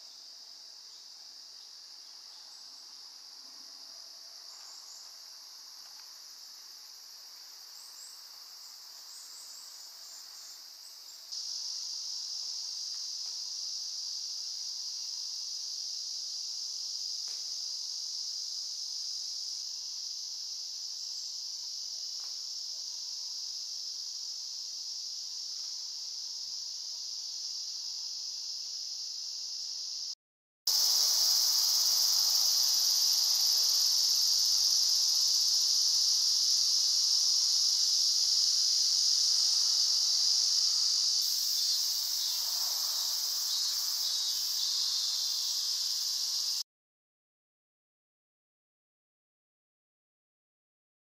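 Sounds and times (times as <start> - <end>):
chirring insects chorus: 0.0 - 46.6.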